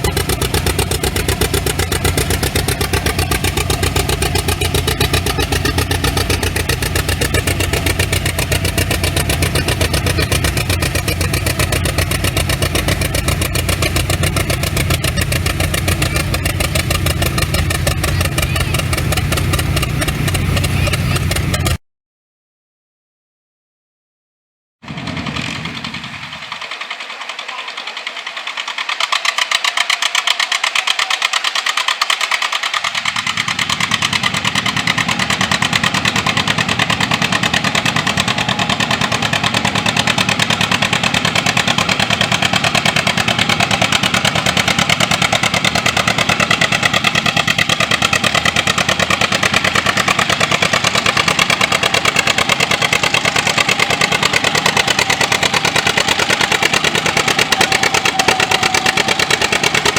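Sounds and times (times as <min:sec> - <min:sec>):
tractor engine running: 0:00.0 - 0:21.8, 0:24.8 - 0:59.9.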